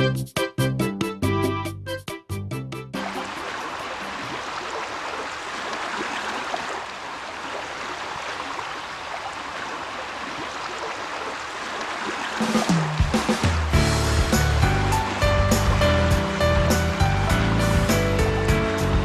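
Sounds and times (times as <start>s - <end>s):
running water: 3.0s - 19.0s.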